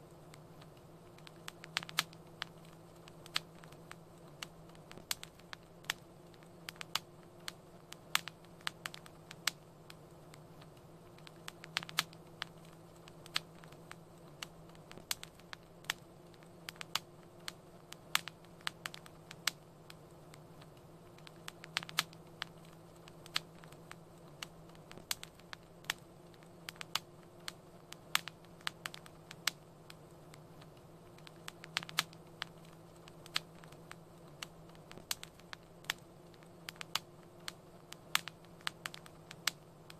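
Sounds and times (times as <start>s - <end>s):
steady low hum: 0.0s - 39.9s
wood fire crackling: 0.0s - 39.9s.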